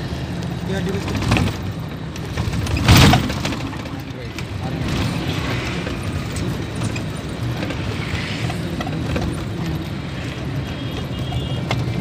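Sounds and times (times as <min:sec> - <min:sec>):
bus driving alongside: 0:00.0 - 0:12.0
road traffic and tyre noise: 0:00.0 - 0:12.0.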